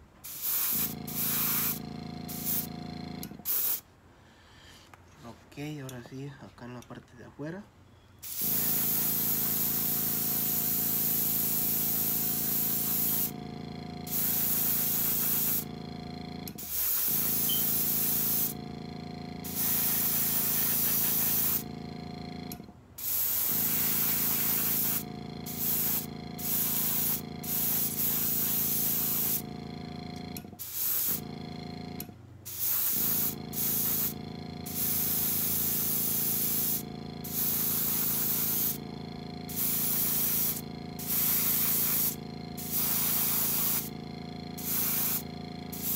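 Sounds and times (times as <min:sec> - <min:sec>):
steady hum: 0:00.0 - 0:04.4, 0:08.1 - 0:45.9
airbrush spraying bursts: 0:00.2 - 0:03.8, 0:08.2 - 0:29.8, 0:30.6 - 0:31.3, 0:32.5 - 0:45.9.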